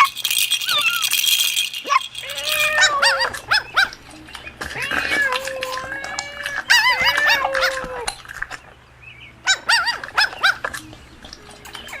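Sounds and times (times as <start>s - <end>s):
puppy whining: 0.0s - 8.5s, 9.4s - 12.0s
puppies yapping and yelping: 0.0s - 12.0s.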